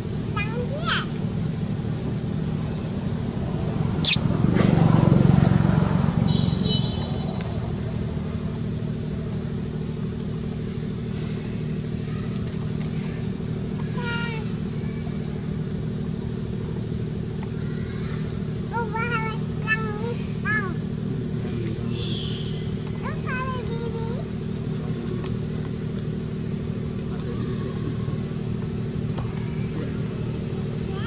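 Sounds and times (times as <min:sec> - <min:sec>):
low engine hum: 0:01.0 - 0:31.0.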